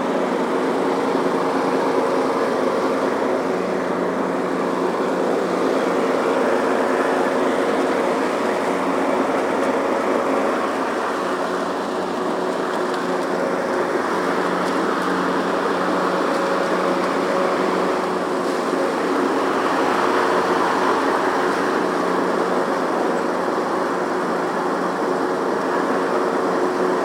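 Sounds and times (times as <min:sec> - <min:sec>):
lawn tractor engine running: 0:00.0 - 0:27.0.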